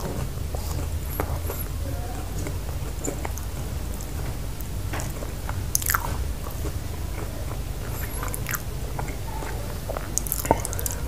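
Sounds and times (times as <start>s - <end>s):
moist mouth clicks: 0.0s - 1.8s, 2.4s - 11.0s
chewing with crunches: 0.0s - 11.0s
steady low hum: 0.0s - 11.0s.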